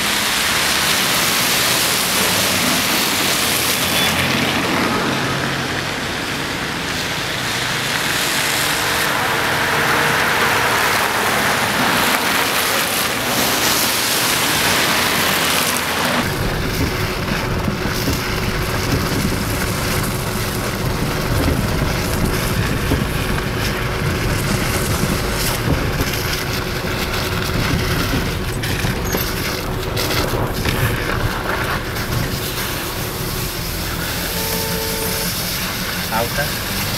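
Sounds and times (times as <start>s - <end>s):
vehicle driving on a road: 0.0s - 36.9s.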